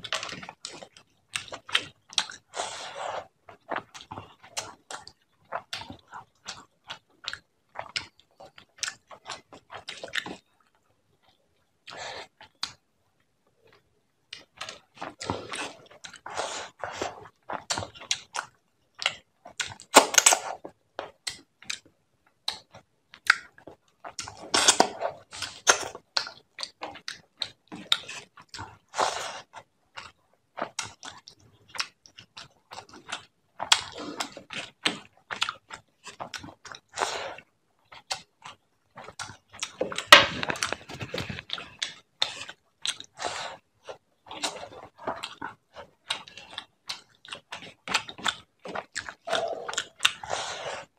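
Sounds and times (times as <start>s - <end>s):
chewing: 0.0s - 12.8s, 13.6s - 50.9s.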